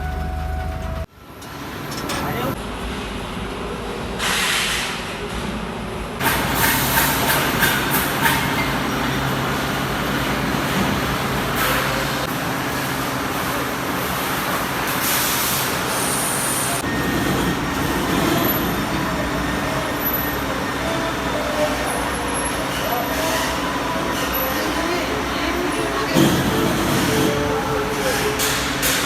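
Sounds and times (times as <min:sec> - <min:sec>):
heavy machinery rumble and hum: 0:00.0 - 0:29.0.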